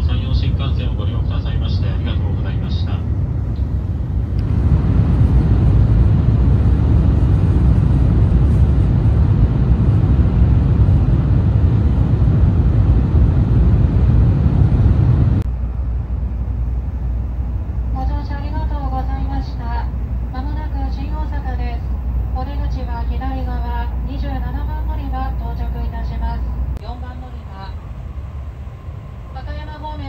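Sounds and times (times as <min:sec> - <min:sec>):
train running noise inside car: 0:00.0 - 0:30.0.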